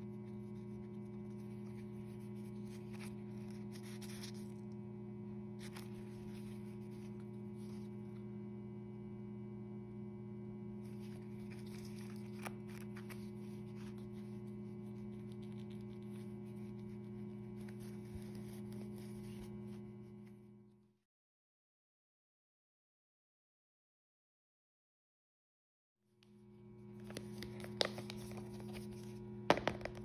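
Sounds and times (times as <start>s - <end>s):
low electrical mains hum: 0.0s - 21.0s, 26.2s - 30.0s.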